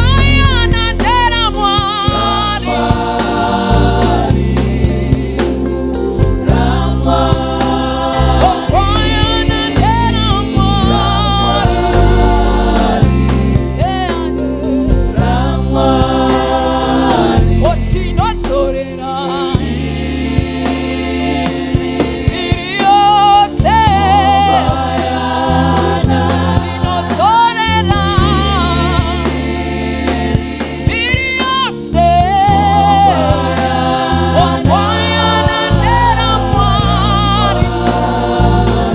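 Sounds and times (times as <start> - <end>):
band playing gospel music: 0.0 - 38.9
choir and congregation singing: 0.0 - 38.9.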